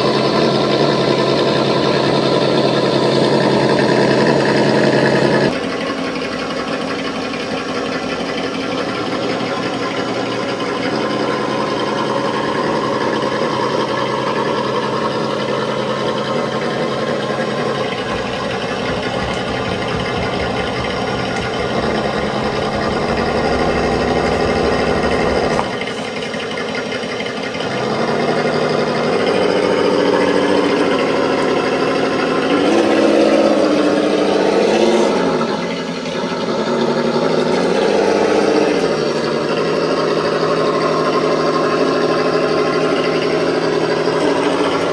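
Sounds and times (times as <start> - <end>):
simulated engine from small speaker: 0.0 - 44.9.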